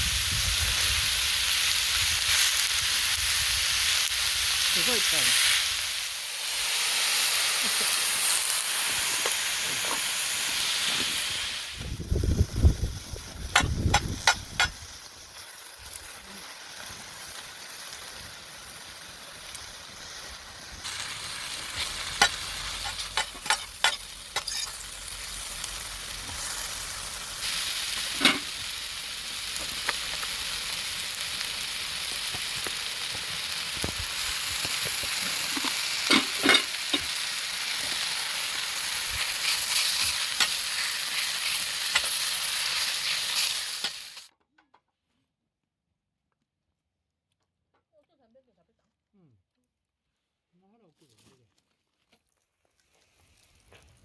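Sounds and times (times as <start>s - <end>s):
food sizzling on grill: 0.0s - 44.3s, 52.6s - 54.0s.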